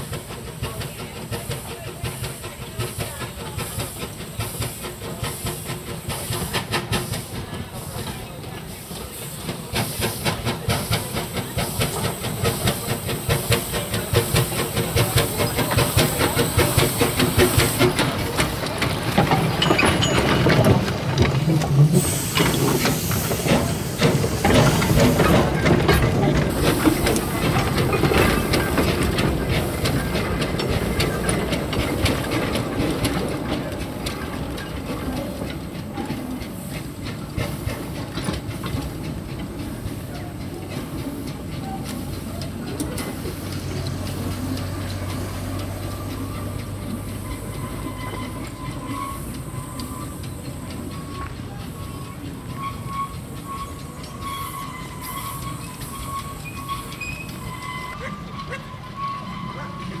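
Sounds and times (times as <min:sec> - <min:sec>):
loud hiss of steam: 0:00.0 - 1:00.0
steam locomotive chuffing: 0:00.0 - 1:00.0
carriage rolling on rails: 0:10.6 - 1:00.0.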